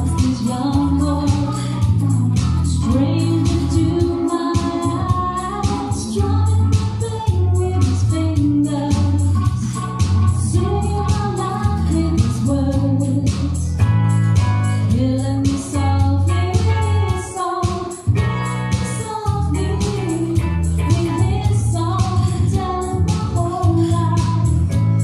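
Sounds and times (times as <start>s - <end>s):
person singing: 0.0s - 13.8s, 14.9s - 25.0s
even drum beat: 0.0s - 25.0s
steady bass: 0.0s - 25.0s.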